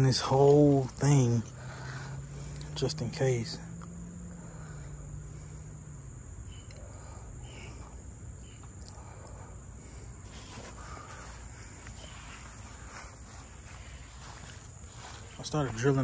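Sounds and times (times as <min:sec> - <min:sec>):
insects trilling: 0:00.0 - 0:16.0
low outdoor rumble: 0:00.0 - 0:16.0.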